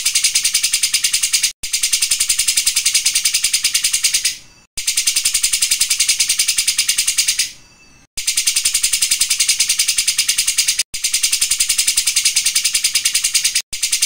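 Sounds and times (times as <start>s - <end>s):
songbird rattling trill: 0.0s - 14.0s.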